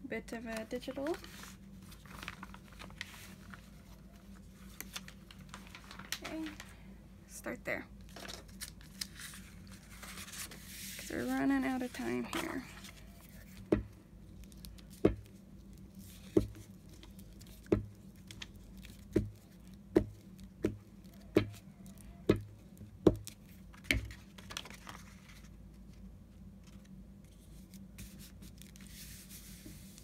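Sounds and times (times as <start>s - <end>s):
faint paper rustling: 0.4s - 6.9s, 8.1s - 22.1s, 23.1s - 30.0s.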